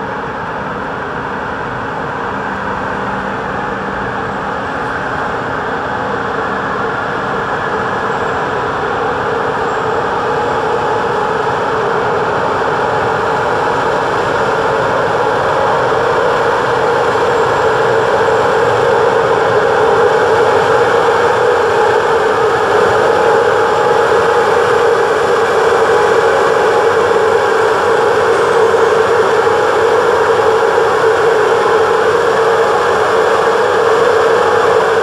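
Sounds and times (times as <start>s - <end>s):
train running: 0.0s - 35.0s.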